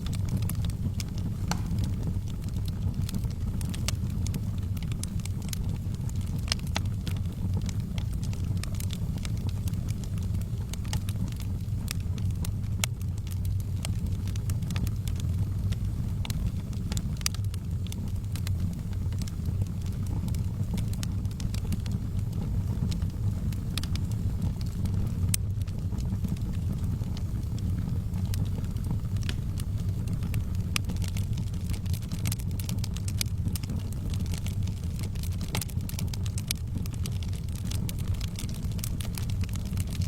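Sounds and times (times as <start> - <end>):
fire crackling and popping: 0.0 - 40.0
fire flames rumbling: 0.0 - 40.0.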